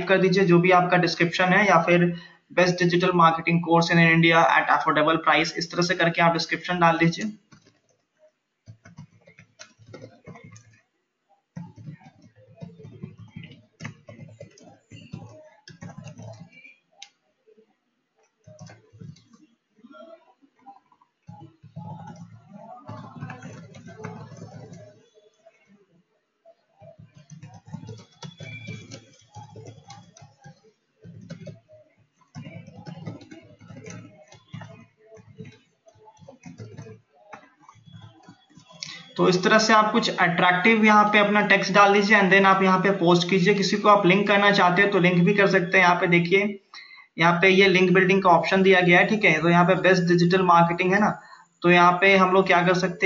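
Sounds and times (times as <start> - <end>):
computer keyboard typing: 4.8 - 10.9, 11.5 - 17.2, 18.2 - 25.5, 26.8 - 46.4, 47.2 - 53.0.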